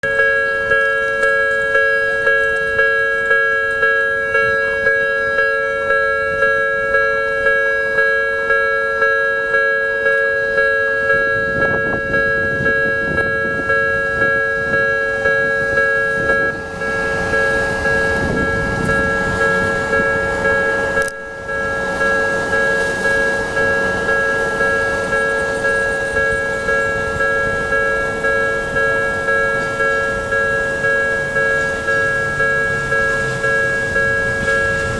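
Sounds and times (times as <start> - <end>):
level-crossing warning bell ringing: 0.0 - 34.9
passing train rumble: 0.0 - 34.9.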